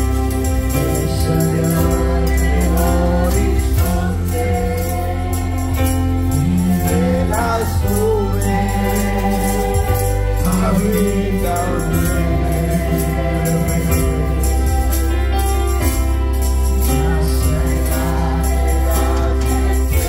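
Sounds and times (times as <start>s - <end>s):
deep bass line: 0.0s - 20.0s
high percussion beat: 0.0s - 20.0s
worship music singing: 0.0s - 20.0s.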